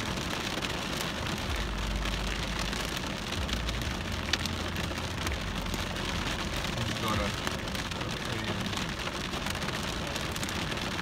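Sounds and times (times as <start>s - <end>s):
rain drumming on car roof: 0.0s - 11.0s.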